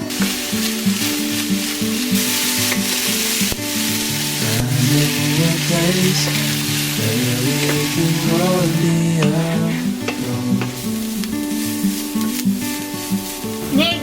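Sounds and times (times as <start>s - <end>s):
background music: 0.0s - 14.0s
food sizzling in a pan: 0.0s - 14.0s.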